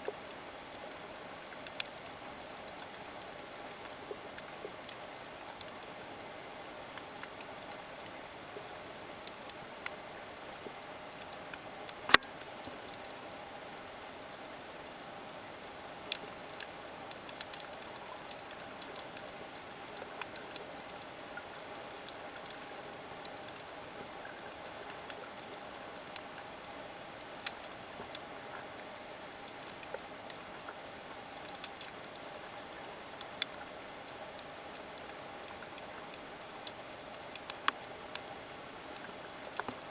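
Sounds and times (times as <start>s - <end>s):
underwater clicks and crackles: 0.0s - 39.9s.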